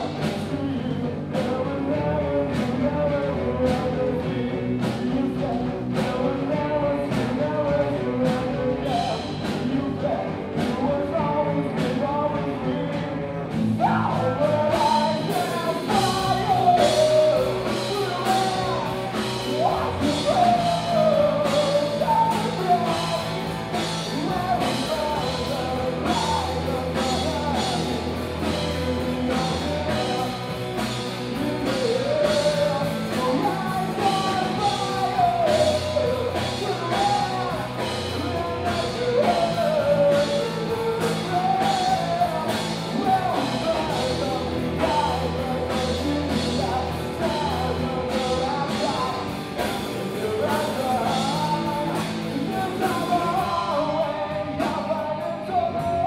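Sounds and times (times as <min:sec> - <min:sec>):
drum kit beat: 0:00.0 - 0:56.0
electric guitars: 0:00.0 - 0:56.0
person singing through pa: 0:00.0 - 0:56.0.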